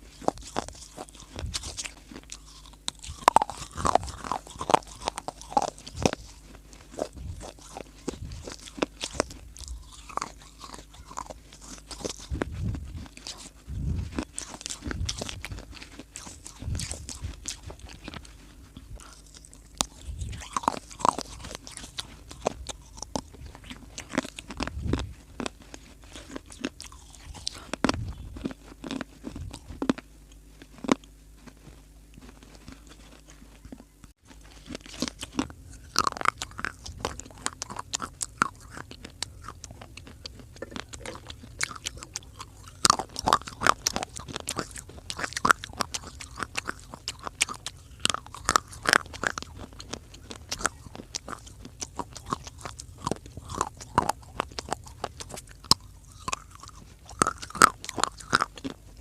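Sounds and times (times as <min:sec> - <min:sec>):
mouth crunching and chewing: 0:00.0 - 0:59.0.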